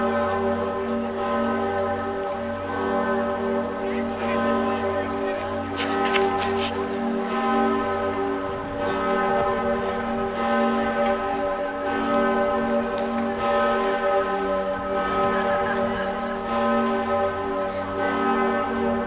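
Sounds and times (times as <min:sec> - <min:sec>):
large bronze bell ringing: 0:00.0 - 0:19.0.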